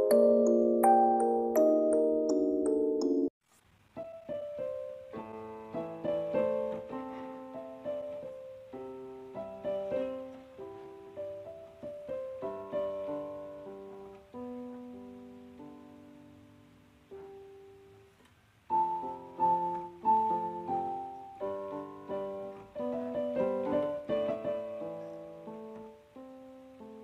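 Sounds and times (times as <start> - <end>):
gentle piano music: 0.0 - 3.4, 4.0 - 27.0.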